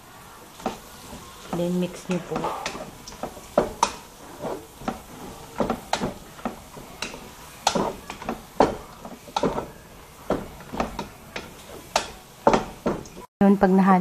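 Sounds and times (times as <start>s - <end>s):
utensil scraping a metal pot: 0.6s - 13.1s.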